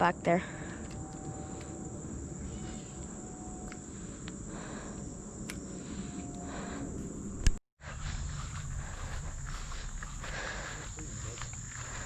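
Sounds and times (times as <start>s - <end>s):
insects droning: 0.0s - 12.0s
low rumble: 0.4s - 12.0s.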